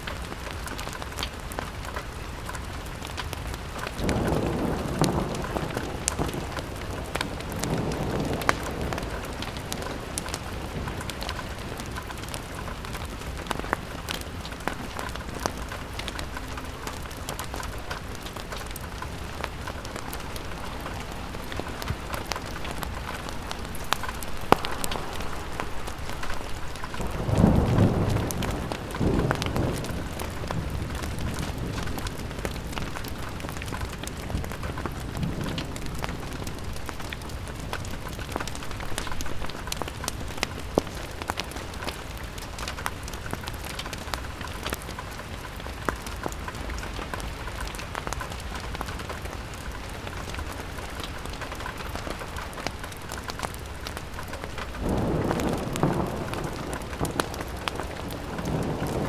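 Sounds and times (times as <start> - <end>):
rain on a window: 0.0 - 59.0
thunder rumble: 2.6 - 44.8, 48.8 - 59.0.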